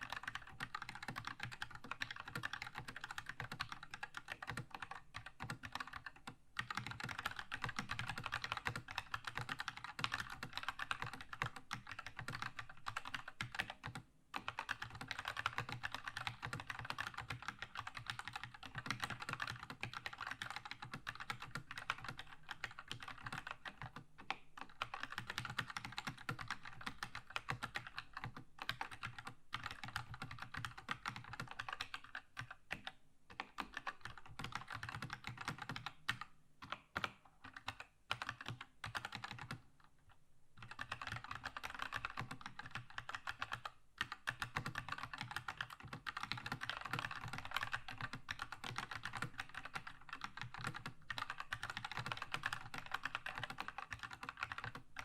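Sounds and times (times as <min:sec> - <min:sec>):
mechanical keyboard typing: 0:00.0 - 0:39.9, 0:40.6 - 0:55.0.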